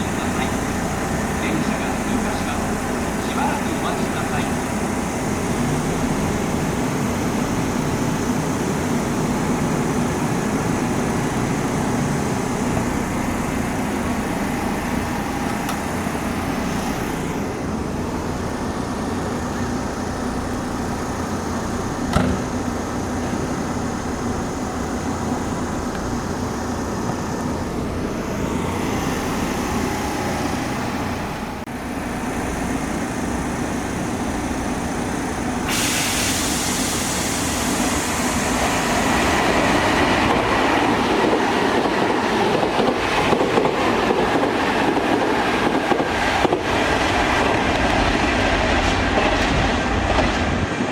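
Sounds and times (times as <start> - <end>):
electric train running: 0.0 - 50.9.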